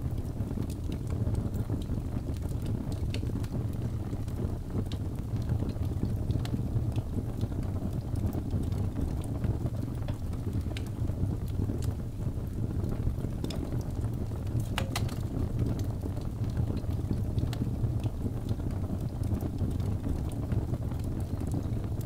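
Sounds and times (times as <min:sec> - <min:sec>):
log fire crackling and popping: 0:00.0 - 0:22.0.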